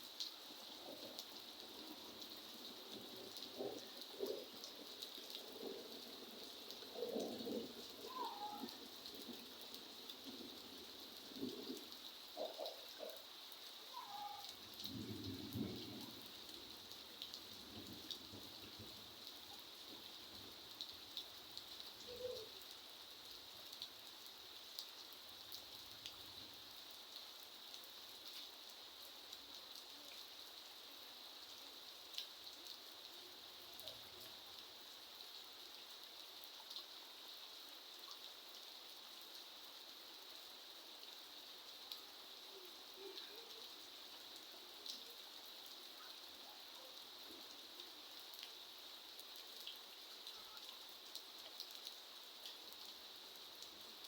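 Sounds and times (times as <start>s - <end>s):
rain drops ticking on hard surface: 0.0s - 54.0s.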